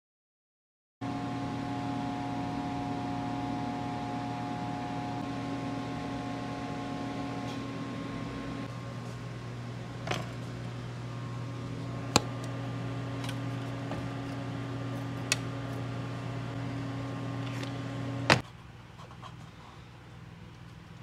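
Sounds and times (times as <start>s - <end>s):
battery charger humming: 1.0s - 18.4s.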